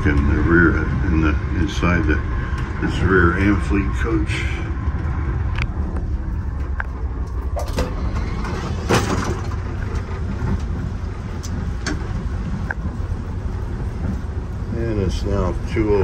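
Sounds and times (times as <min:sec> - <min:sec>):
train coach rumble: 0:00.0 - 0:16.0.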